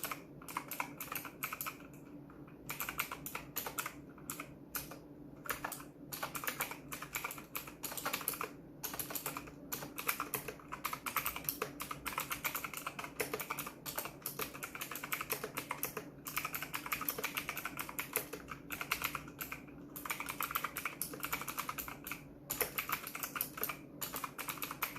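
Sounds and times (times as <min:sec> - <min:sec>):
mechanical keyboard typing: 0:00.0 - 0:24.9.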